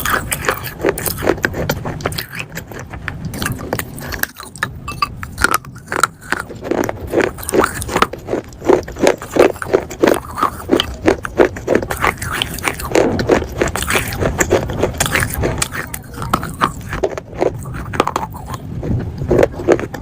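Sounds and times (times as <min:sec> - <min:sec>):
chewing with gritty crunch: 0:00.0 - 0:20.0.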